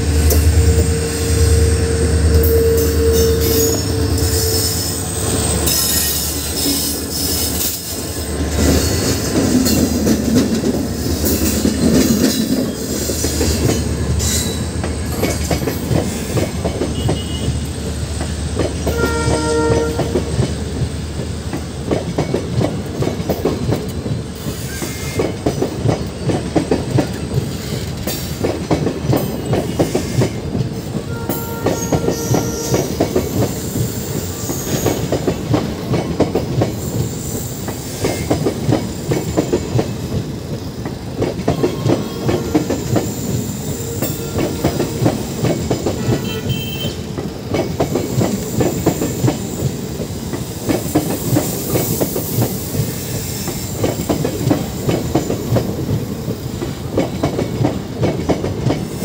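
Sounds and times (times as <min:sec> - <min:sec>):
wheels clickety-clack on rail joints: 0:00.0 - 0:59.0.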